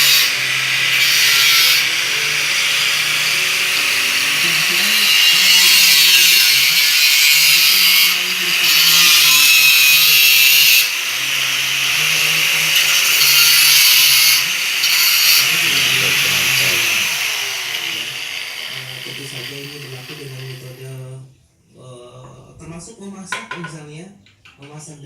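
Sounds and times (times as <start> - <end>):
power tool on metal: 0.0 - 21.0.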